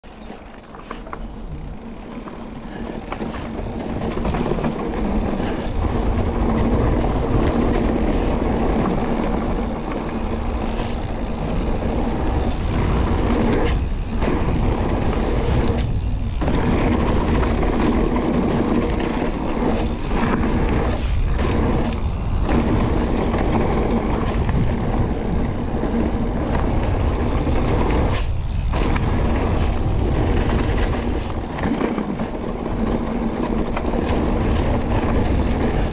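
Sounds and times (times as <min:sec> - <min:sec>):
tyres rumbling over gravel: 0:00.0 - 0:35.9
wind buffeting microphone: 0:01.0 - 0:35.9.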